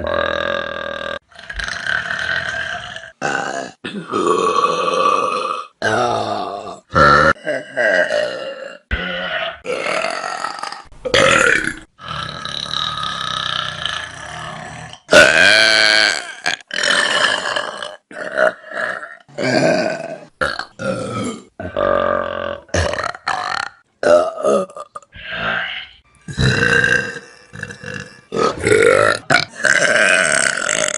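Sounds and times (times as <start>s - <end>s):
person burping: 0.0s - 30.9s.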